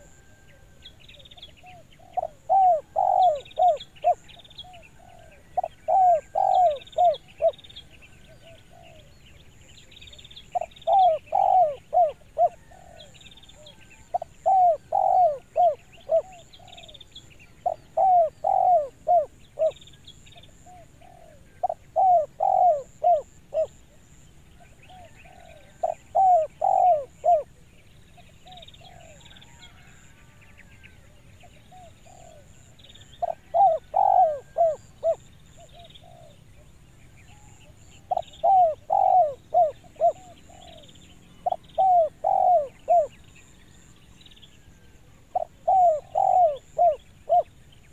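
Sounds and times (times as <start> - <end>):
dove cooing: 0.0 - 9.2, 10.5 - 19.8, 20.4 - 27.6, 28.2 - 30.0, 31.4 - 36.7, 37.3 - 43.2, 44.7 - 47.5
small birds chirping: 0.9 - 29.4, 31.4 - 47.9.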